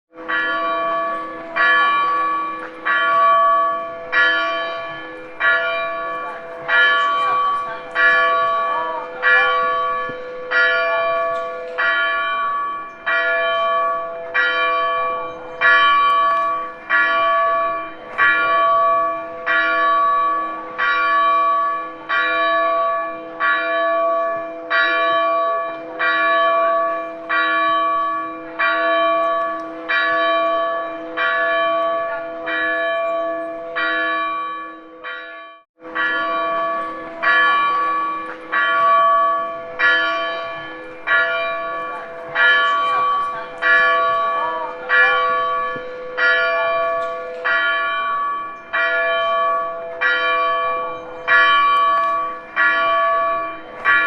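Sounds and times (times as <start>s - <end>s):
church bell tolling: 0.1s - 54.0s.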